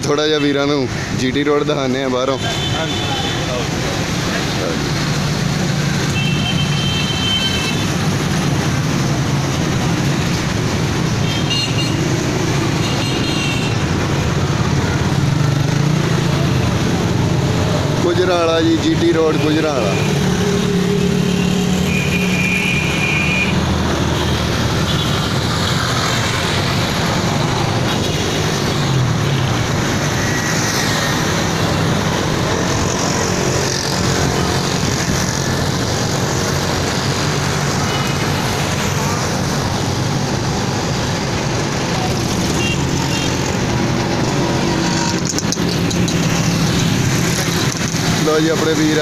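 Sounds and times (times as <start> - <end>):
car engines: 0.0 - 49.0
motorcycles passing: 0.0 - 49.0.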